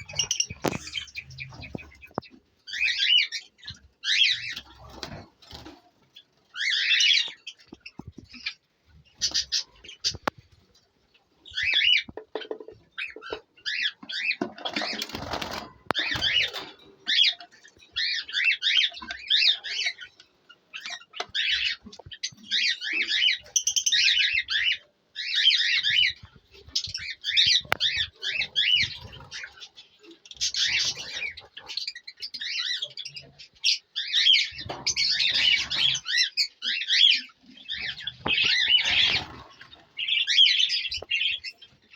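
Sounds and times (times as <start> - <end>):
birds chirping and chattering: 0.0 - 41.9.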